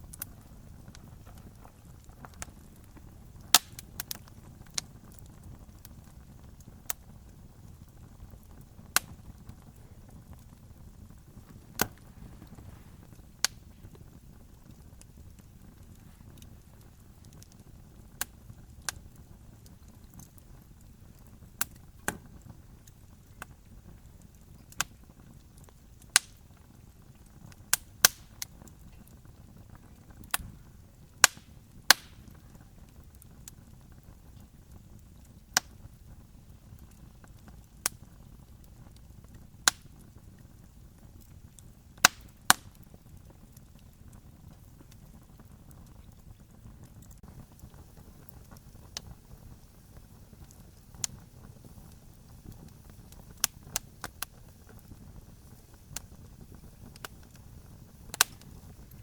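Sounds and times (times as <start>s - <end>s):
campfire crackling and popping: 0.0s - 59.0s
faint low rumble: 0.0s - 59.0s.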